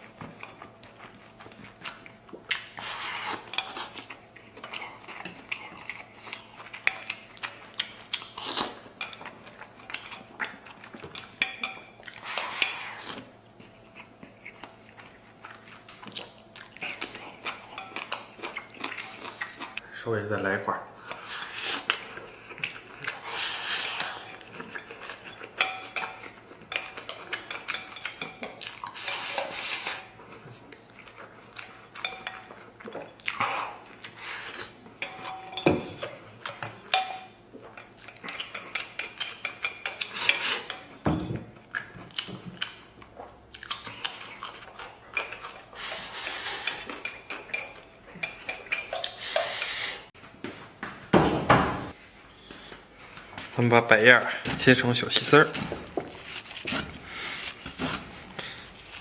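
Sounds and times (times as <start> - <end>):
person chewing: 0.0 - 19.9, 21.0 - 50.2, 55.7 - 59.0.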